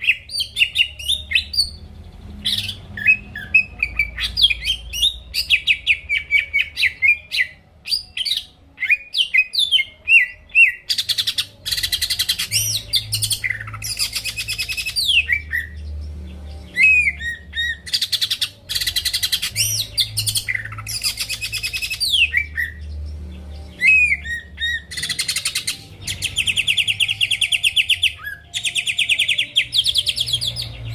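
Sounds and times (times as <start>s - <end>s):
bird singing whistles and trills: 0.0s - 30.9s.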